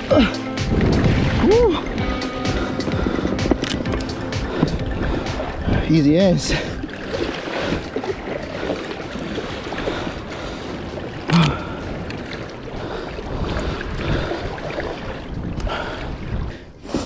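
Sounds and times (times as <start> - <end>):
water sloshing around kayak: 0.0 - 17.0
wind on the sea: 0.0 - 17.0.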